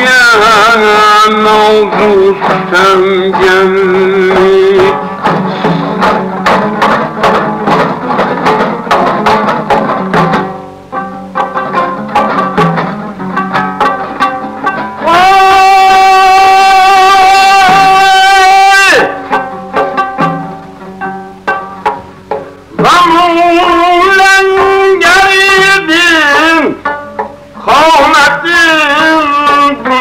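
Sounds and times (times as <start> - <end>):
plucked strings: 0.0 - 30.0.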